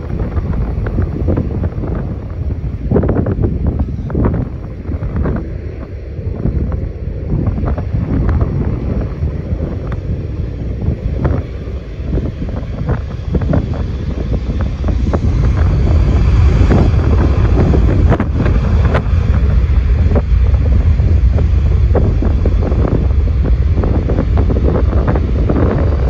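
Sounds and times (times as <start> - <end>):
jet engines rumbling: 0.0 - 26.0
wind buffeting microphone: 0.0 - 26.0.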